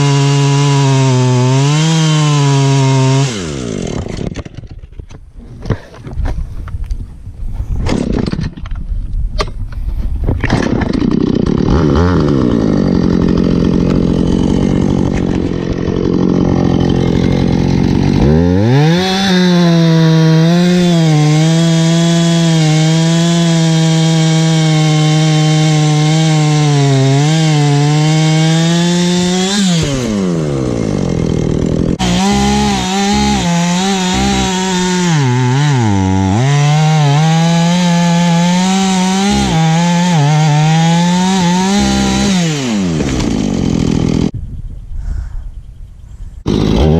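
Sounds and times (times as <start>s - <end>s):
chainsaw cutting wood: 0.0s - 5.9s, 7.9s - 8.6s, 10.3s - 44.4s, 46.4s - 46.9s.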